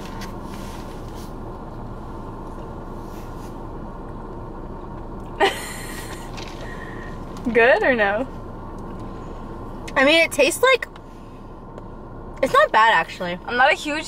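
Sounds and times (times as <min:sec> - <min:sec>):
car cabin hum: 0:00.0 - 0:14.0.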